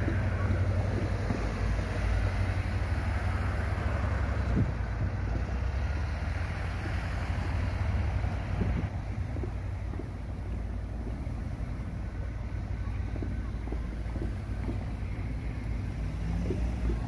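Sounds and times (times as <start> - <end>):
train rumbling past: 0.0 - 17.0
wind buffeting microphone: 0.0 - 17.0.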